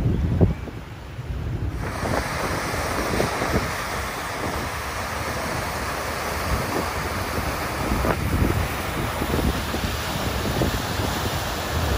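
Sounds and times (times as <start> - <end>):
wind buffeting microphone: 0.0 - 11.9
water rushing in a cascade: 0.3 - 11.9.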